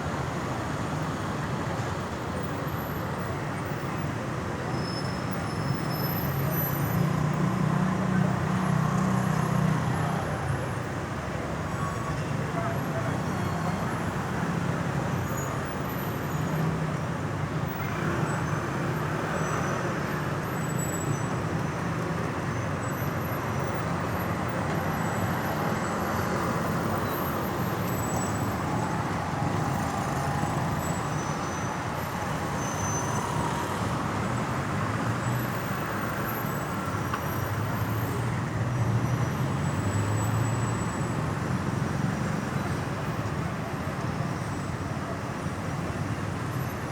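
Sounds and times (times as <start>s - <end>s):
road traffic rumble: 0.0s - 46.9s.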